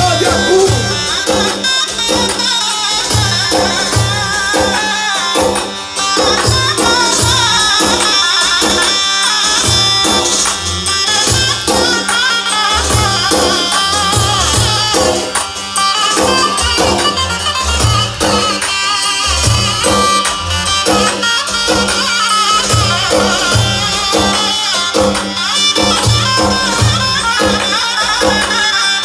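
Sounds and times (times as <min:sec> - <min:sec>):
drum beat: 0:00.0 - 0:28.8
folk music: 0:00.0 - 0:29.0.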